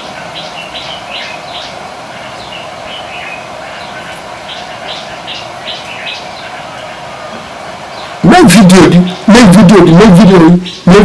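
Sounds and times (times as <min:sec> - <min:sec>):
bird chirping: 0:00.0 - 0:11.0
steady background hum: 0:00.0 - 0:11.0.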